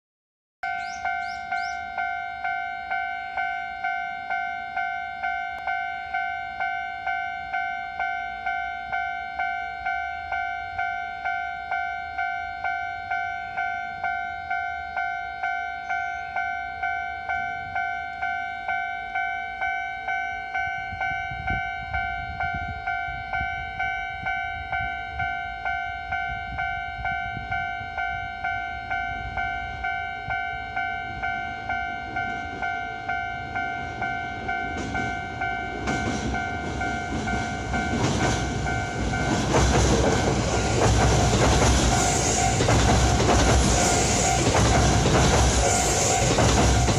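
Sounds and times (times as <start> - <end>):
level crossing warning bell: 0.6 - 46.9
train rumbling over rails: 0.6 - 46.9.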